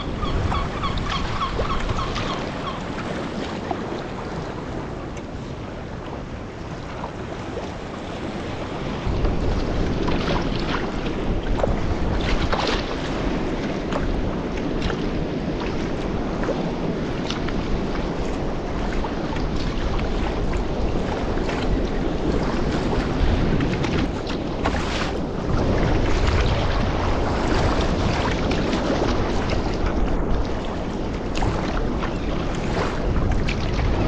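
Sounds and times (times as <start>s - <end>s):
choppy water sloshing around kayak: 0.0s - 34.0s
paddle splashes: 0.0s - 34.0s
wind buffeting microphone: 0.0s - 34.0s.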